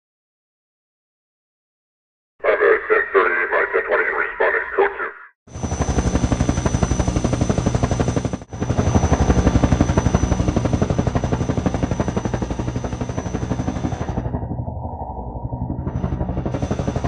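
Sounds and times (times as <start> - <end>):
helicopter rotor chop and whine: 2.4 - 17.0.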